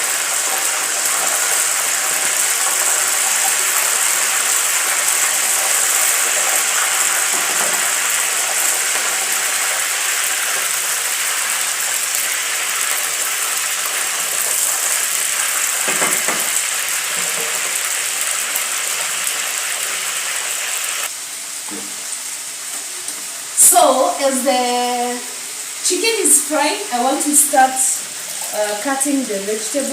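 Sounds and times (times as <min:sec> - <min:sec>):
chicken sizzling in hot oil: 0:00.0 - 0:29.9.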